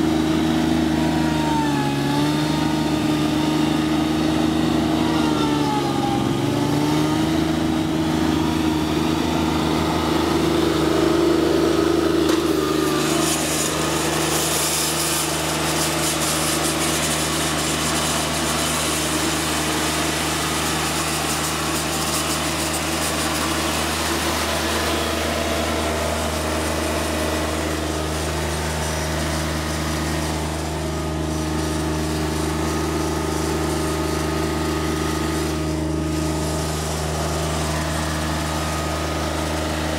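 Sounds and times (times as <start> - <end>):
diesel mower engine running: 0.0 - 39.9.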